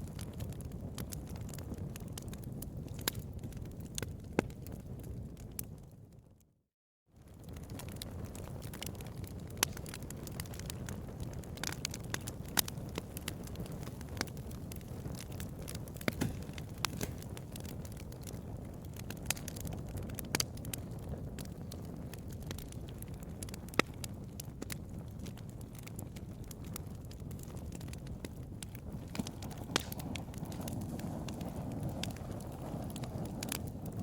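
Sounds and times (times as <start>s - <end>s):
bonfire crackling and popping: 0.0s - 6.5s, 7.2s - 34.0s
low rumble of flames: 0.0s - 6.5s, 7.2s - 34.0s.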